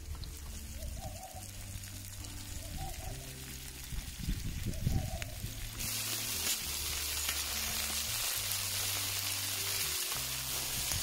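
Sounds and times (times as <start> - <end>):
greens sizzling in hot fat: 0.0 - 11.0.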